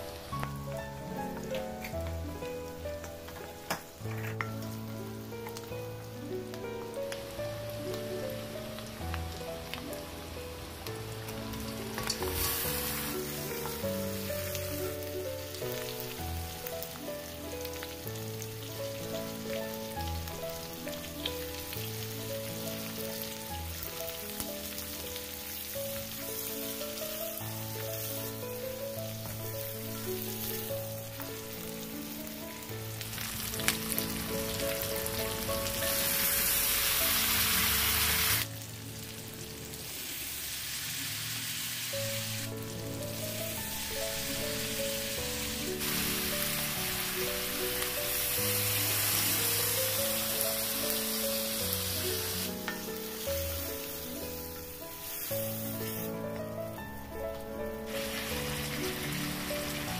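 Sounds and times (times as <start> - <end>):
background music: 0.0 - 40.5, 41.9 - 59.9
food sizzling in a wok: 0.0 - 59.9.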